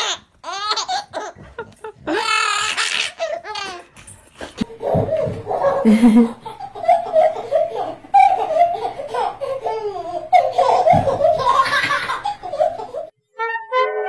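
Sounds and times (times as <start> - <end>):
baby giggling: 0.0 - 3.9, 4.6 - 13.1.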